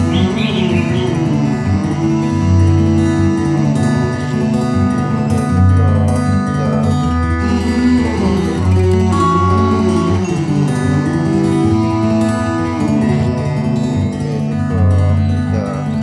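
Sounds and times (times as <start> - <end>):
instrumental music with plucked guitar: 0.0 - 16.0.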